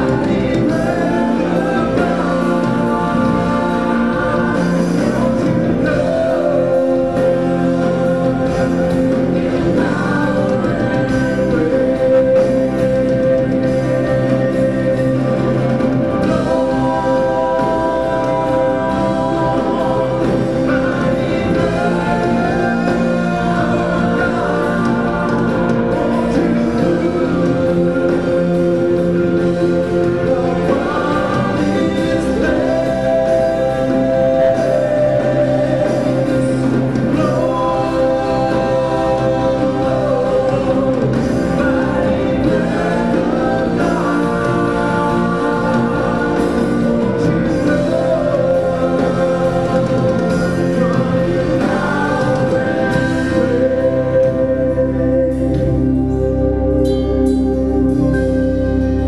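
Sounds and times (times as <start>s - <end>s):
person singing worship song: 0.0s - 59.0s
sustained instrumental backing: 0.0s - 59.0s.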